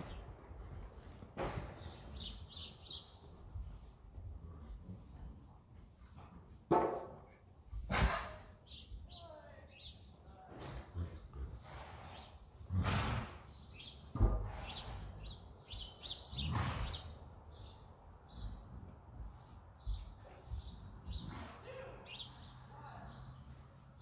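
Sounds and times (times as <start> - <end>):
small birds chirping: 0.0 - 6.4, 8.4 - 24.0.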